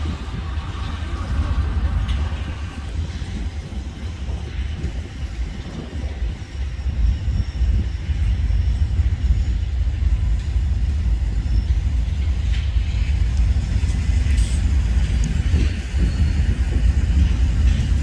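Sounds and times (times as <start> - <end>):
diesel locomotives rumbling: 0.0 - 18.0.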